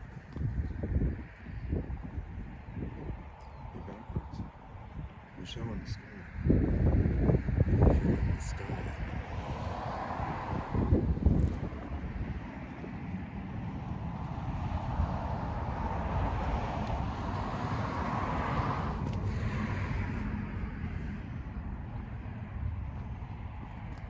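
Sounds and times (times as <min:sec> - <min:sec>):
car engine and road rumble: 0:00.0 - 0:24.0
road or wind noise: 0:00.0 - 0:24.0.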